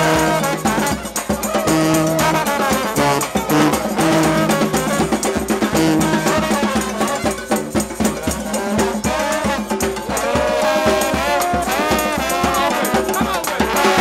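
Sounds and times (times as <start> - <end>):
brass band playing: 0.0 - 14.0
drums beating a steady rhythm: 0.0 - 14.0.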